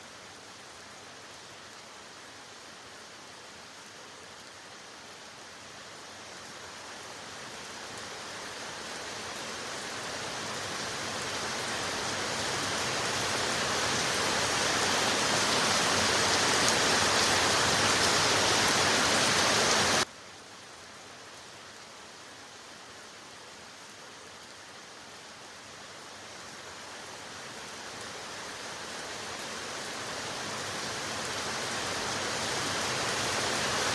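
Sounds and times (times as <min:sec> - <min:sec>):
rain hiss: 0:00.0 - 0:33.9.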